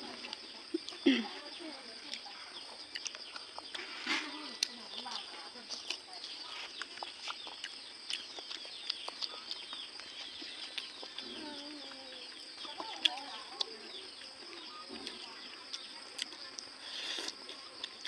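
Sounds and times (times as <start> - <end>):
birds chirping: 0.0 - 16.5.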